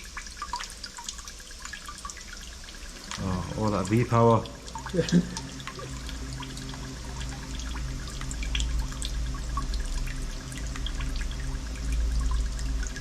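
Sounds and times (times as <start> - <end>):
fuel dripping into container: 0.0 - 13.0
steady low hum: 1.6 - 13.0.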